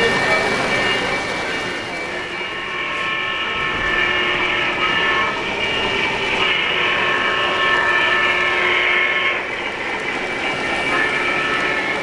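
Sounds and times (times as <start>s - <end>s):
model trains whirring: 0.0s - 12.0s.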